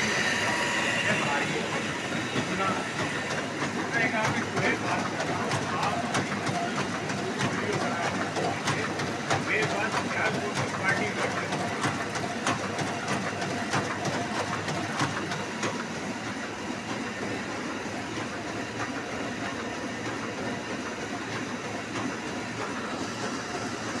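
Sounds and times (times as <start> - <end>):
printing press clattering: 0.0 - 24.0.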